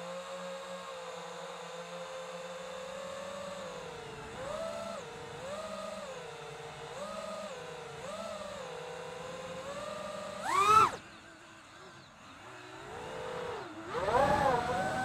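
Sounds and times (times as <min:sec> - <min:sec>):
drone propellers whining: 0:02.8 - 0:15.0.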